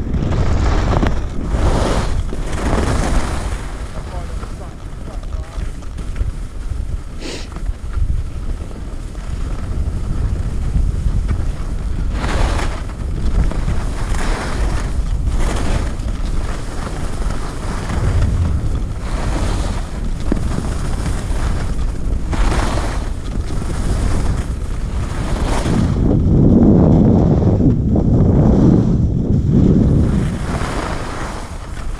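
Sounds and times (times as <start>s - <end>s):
skis scraping on packed snow: 0.0s - 31.9s
wind buffeting microphone: 0.0s - 31.9s.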